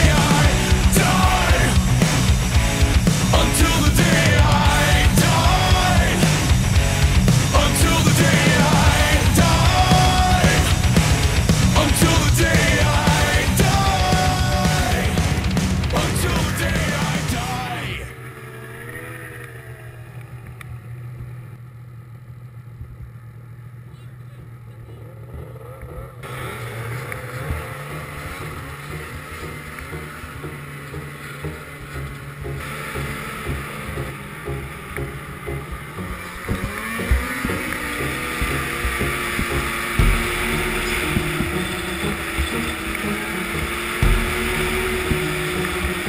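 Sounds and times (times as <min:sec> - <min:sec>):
snowmobile engine running: 0:00.0 - 0:46.0.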